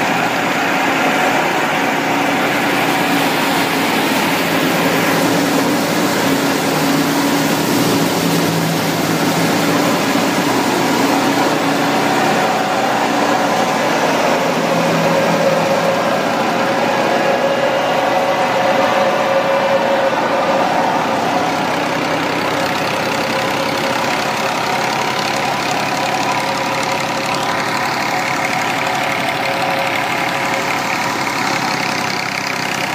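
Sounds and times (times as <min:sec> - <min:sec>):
thresher and tractor engine din: 0:00.0 - 0:32.9.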